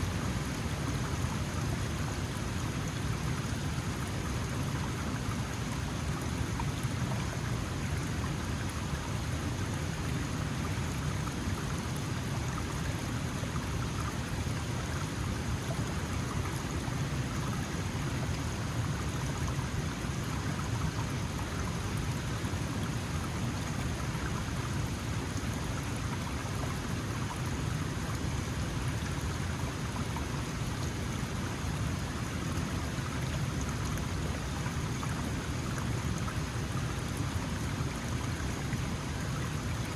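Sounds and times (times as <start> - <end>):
mountain stream babbling: 0.0 - 39.9.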